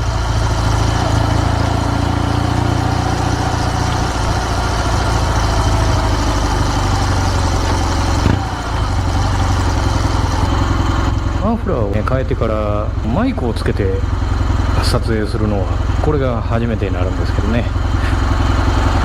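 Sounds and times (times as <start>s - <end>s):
motorcycle engine deep exhaust: 0.0s - 19.0s.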